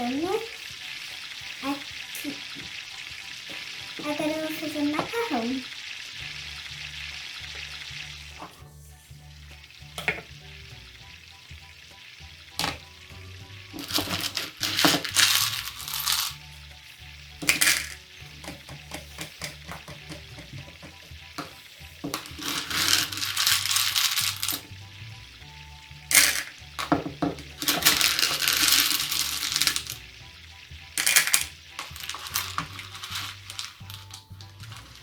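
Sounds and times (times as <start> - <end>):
frying sizzle: 0.0 - 35.0
soft background music: 0.0 - 35.0.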